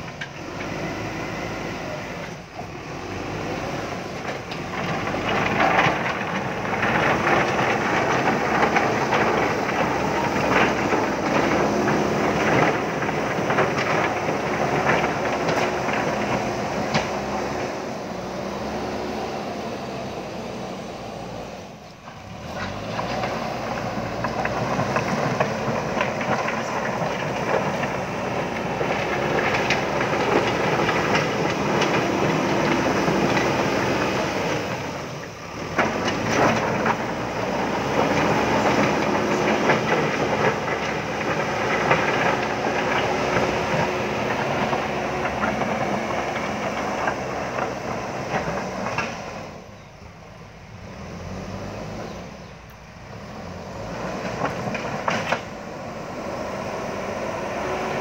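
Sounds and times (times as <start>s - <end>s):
diesel engine working under load: 0.0s - 58.0s.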